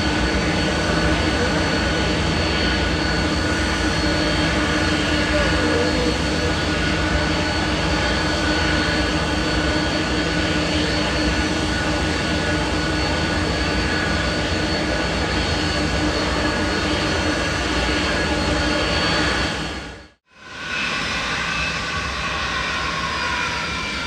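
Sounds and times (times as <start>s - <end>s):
jet engines running: 0.0s - 24.0s
steady whining tones: 0.0s - 24.0s.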